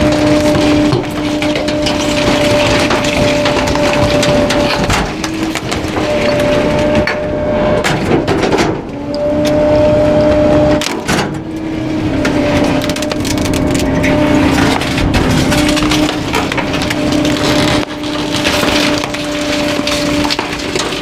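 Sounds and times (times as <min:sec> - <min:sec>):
garbage truck machine hum: 0:00.0 - 0:21.0
wood cracking and splintering: 0:00.0 - 0:21.0.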